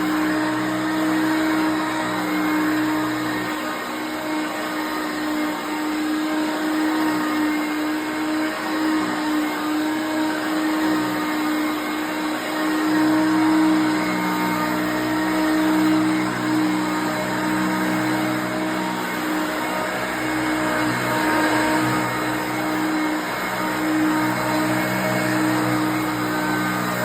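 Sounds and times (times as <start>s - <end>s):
vacuum cleaner motor drone: 0.0s - 27.0s.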